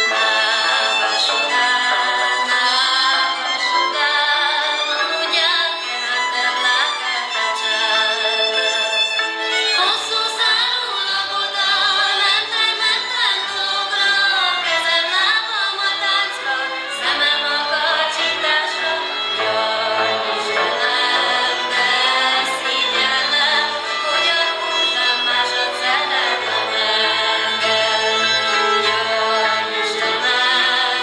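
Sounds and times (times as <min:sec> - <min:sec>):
group of voices singing: 0:00.0 - 0:31.0.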